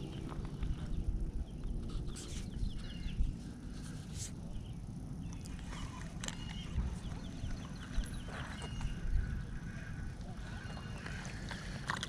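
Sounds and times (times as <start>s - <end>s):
low uneven rumbling: 0.0s - 12.0s.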